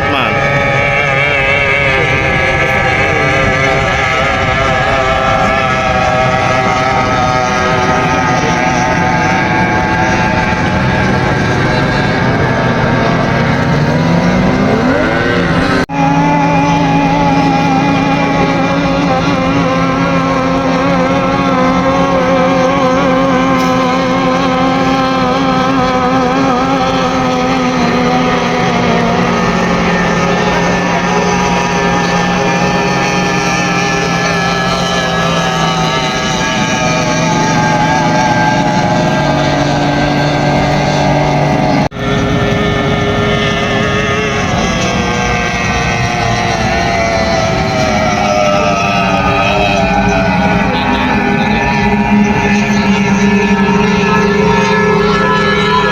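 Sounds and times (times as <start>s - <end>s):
outboard motors running: 0.0s - 55.9s.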